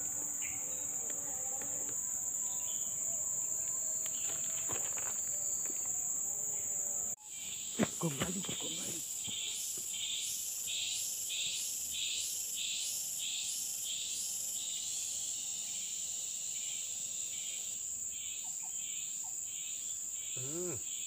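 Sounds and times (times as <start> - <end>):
insects high-pitched whine: 0.0 - 21.0
insects pulsed chirps: 0.0 - 21.0.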